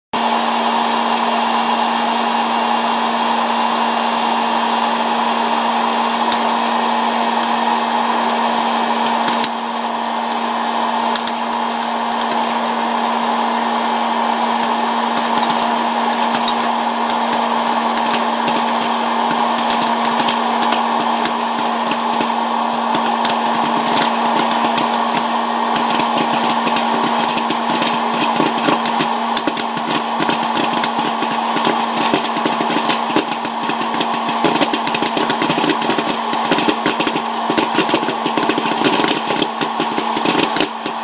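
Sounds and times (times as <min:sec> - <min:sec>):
popcorn popper blower hum: 0:00.2 - 0:41.0
popcorn kernels popping: 0:03.5 - 0:41.0.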